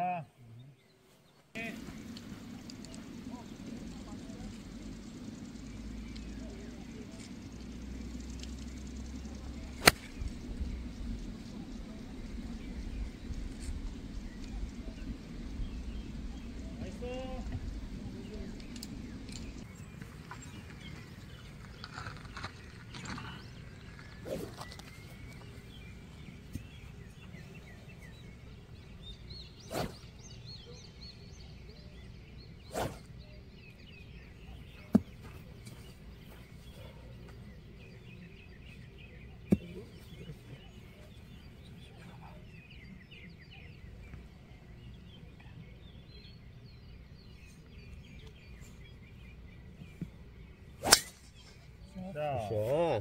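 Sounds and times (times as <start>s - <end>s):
birds chirping and singing: 0.0s - 53.0s.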